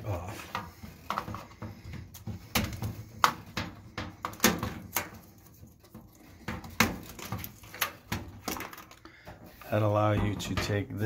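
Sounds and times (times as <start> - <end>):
handling noise: 0.0 - 11.0.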